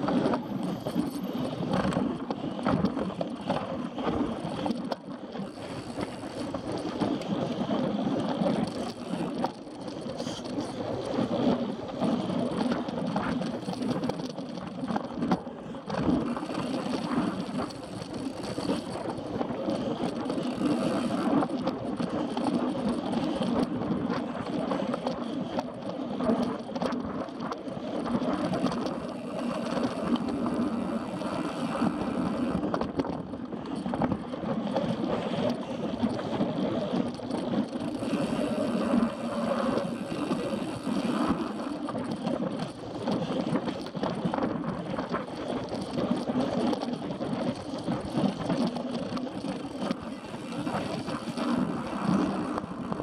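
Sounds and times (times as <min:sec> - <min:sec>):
bike rattles and clicks: 0:00.0 - 0:53.0
tyres rumbling on dirt trail: 0:00.0 - 0:53.0.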